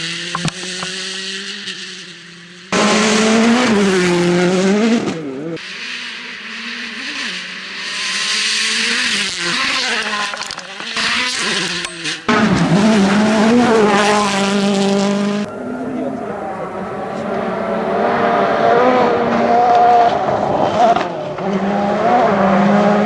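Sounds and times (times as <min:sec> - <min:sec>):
car holding steady engine note: 0:00.0 - 0:13.6, 0:14.4 - 0:21.8
rally car engines revving: 0:00.0 - 0:23.0.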